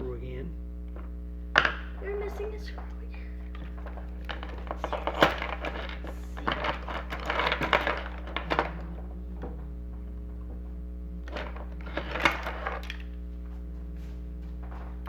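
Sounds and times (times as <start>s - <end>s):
steady low hum: 0.0s - 15.0s
small hard parts clicking and rattling: 0.8s - 15.0s.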